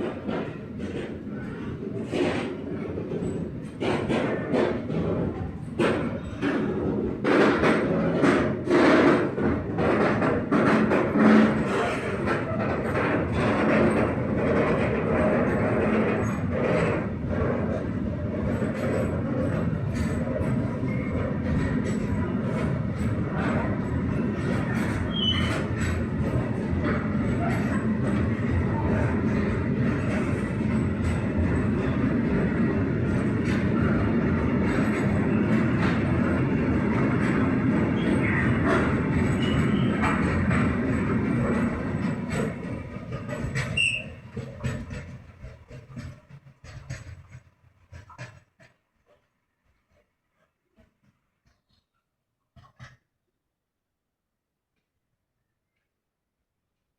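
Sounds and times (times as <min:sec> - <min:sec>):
train wheels rolling on rails: 0:00.0 - 0:52.0.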